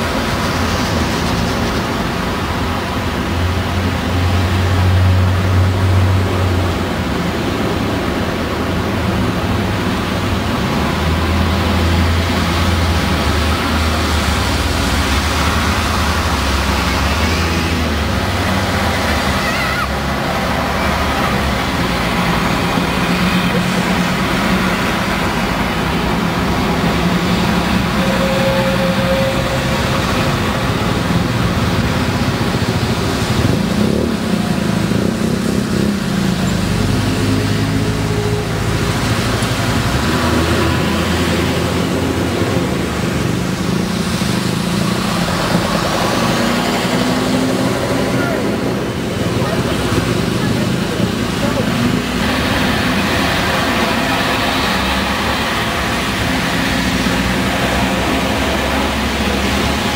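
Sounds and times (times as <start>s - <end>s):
buses and cars passing: 0.0s - 59.9s
steady road noise: 0.0s - 59.9s.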